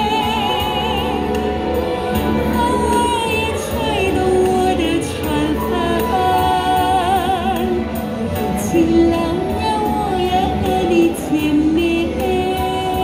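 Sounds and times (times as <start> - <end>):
backing track with steady beat: 0.0 - 13.0
woman singing through microphone: 0.0 - 13.0.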